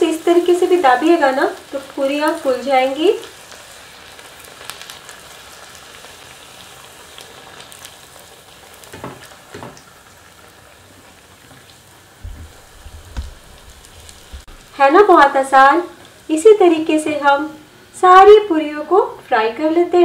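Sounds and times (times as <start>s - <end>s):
dough sizzling in hot oil: 0.0s - 20.0s.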